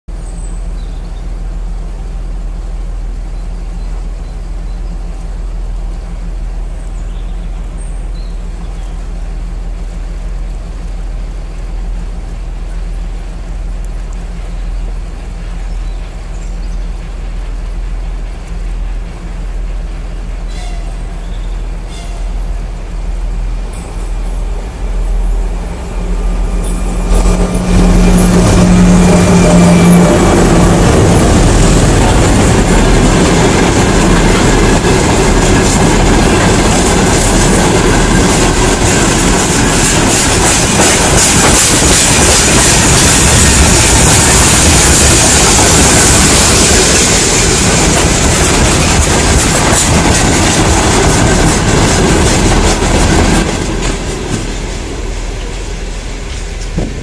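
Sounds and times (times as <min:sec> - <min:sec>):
diesel locomotive engines running: 0:00.1 - 0:57.0.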